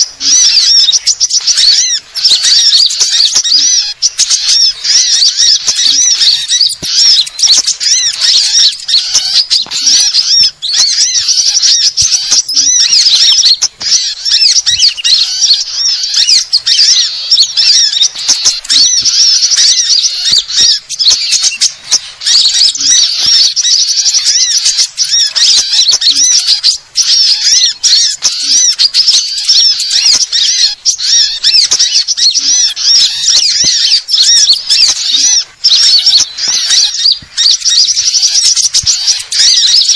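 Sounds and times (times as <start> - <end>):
small birds twittering and chirping: 0.0 - 39.9.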